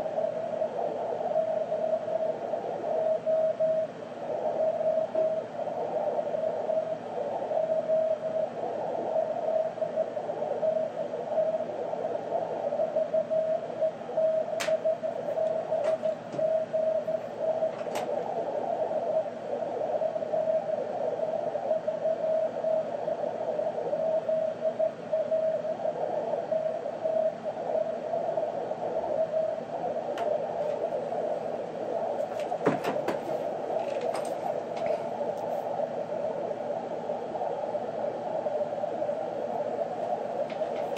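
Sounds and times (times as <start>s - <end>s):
radio hiss: 0.0s - 40.9s.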